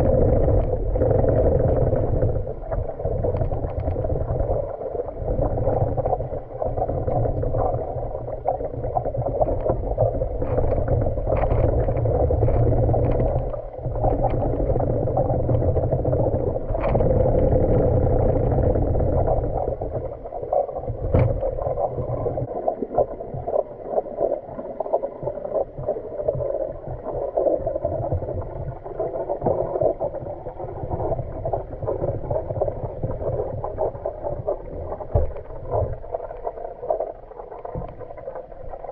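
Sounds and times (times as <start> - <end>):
underwater water rumble: 0.0 - 38.9.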